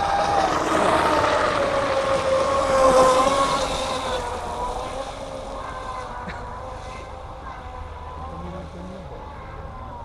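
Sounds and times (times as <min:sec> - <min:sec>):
model boat electric motor whining: 0:00.0 - 0:10.0.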